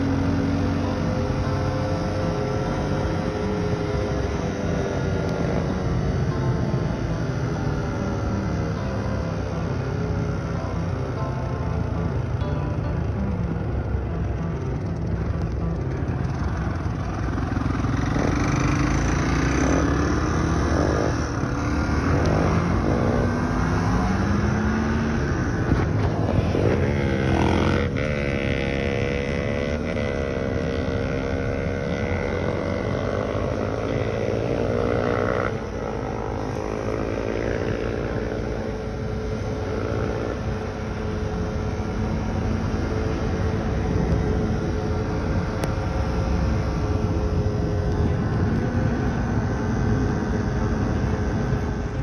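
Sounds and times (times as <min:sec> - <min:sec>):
atv engines revving: 0:00.0 - 0:52.0.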